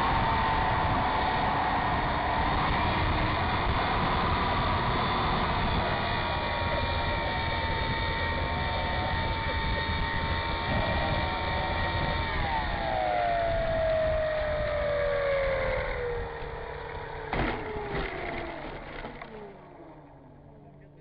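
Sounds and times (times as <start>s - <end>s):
model airplane motor whining: 0.0s - 21.0s.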